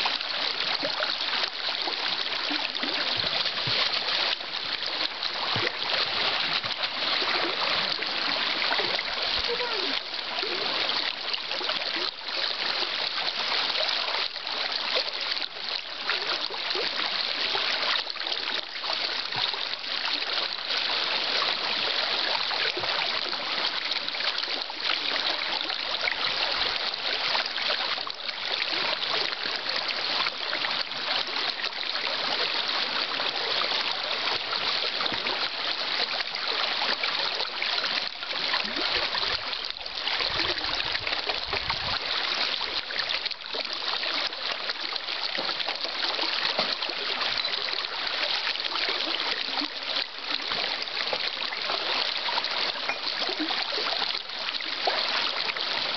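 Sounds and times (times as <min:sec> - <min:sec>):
river water rippling: 0:00.0 - 0:55.9.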